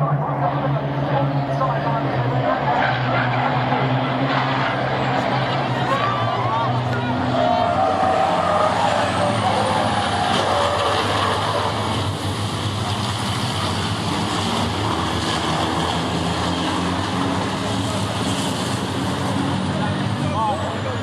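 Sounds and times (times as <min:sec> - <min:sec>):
diesel truck engines droning: 0:00.0 - 0:21.0.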